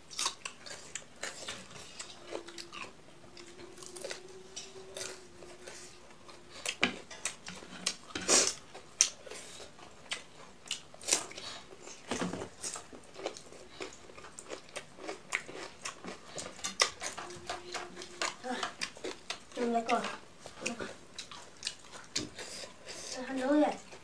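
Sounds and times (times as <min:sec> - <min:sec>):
person crunching and chewing: 0:00.0 - 0:22.9.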